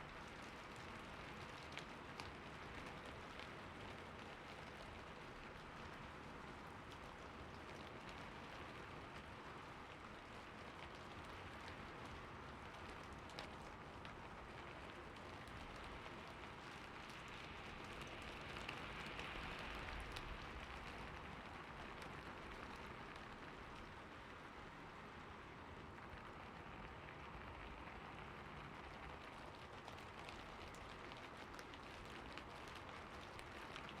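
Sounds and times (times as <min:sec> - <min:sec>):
rain falling: 0:00.0 - 0:34.0
raindrop ticks: 0:00.1 - 0:24.7, 0:25.8 - 0:34.0.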